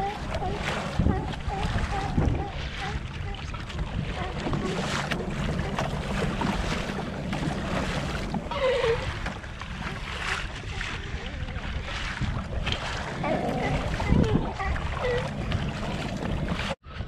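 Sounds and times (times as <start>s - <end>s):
water splashing against hull: 0.0s - 17.0s
wind rushing over microphone: 0.0s - 17.0s.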